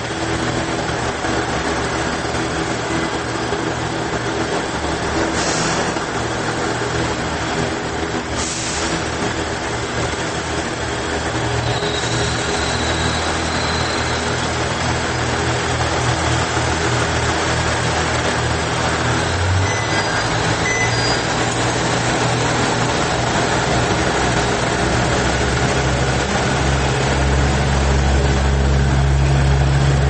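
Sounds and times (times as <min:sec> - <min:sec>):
railcar engine hum and rolling: 0:00.0 - 0:30.0.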